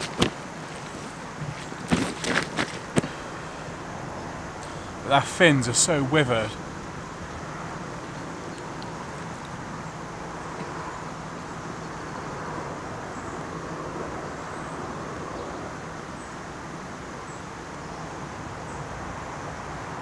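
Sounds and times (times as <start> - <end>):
distant road traffic hum: 0.0 - 20.0.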